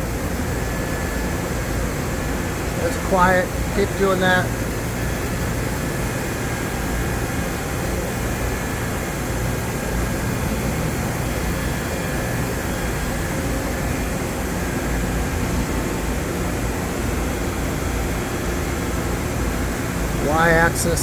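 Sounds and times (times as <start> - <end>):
machining center mechanical hum: 0.0 - 21.0.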